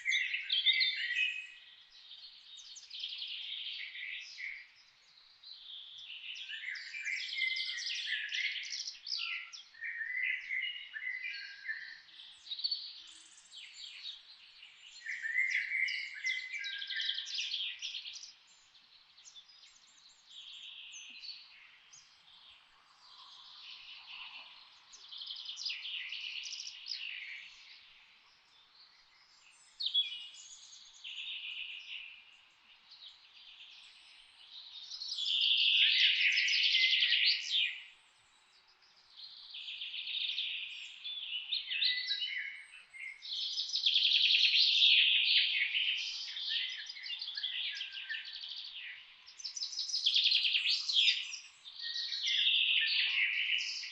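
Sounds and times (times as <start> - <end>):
chorus of songbirds singing: 0.0 - 53.9.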